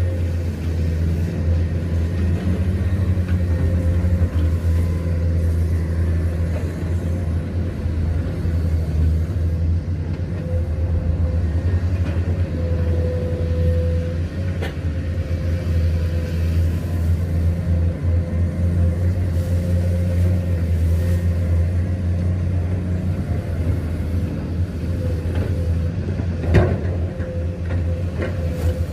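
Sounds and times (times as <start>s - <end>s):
excavator engine rumbling: 0.0s - 28.9s.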